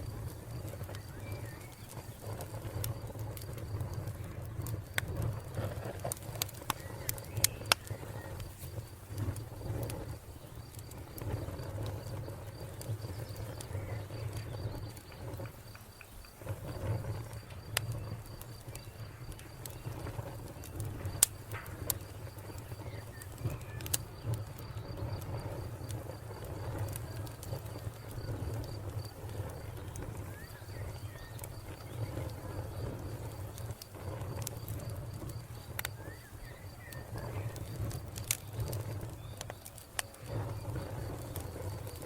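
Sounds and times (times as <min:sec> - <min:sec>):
wood fire crackling: 0:00.0 - 0:42.0
cricket chirping: 0:06.4 - 0:42.0.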